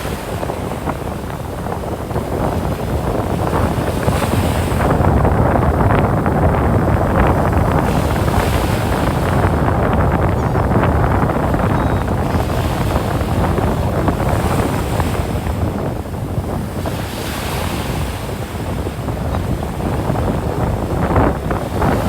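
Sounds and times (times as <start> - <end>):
ocean surf on beach: 0.0 - 22.0
wind buffeting microphone: 0.0 - 22.0.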